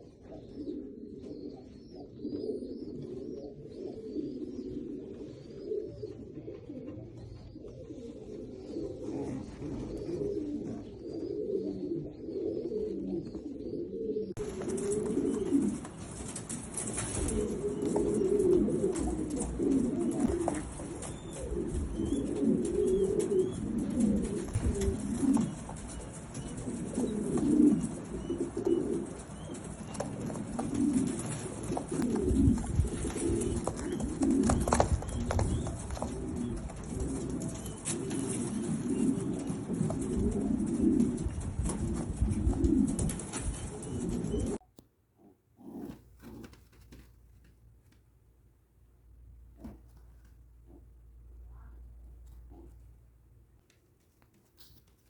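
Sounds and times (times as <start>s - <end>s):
pigeons cooing: 0.0s - 47.1s, 49.5s - 53.2s.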